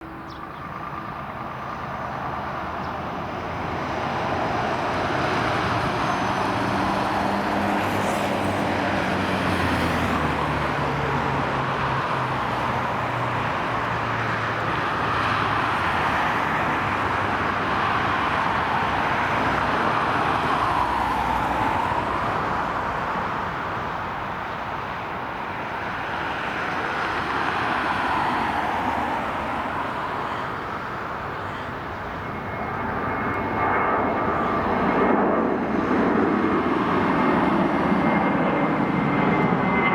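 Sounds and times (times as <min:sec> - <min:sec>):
jet engines at takeoff thrust: 0:00.0 - 0:39.9.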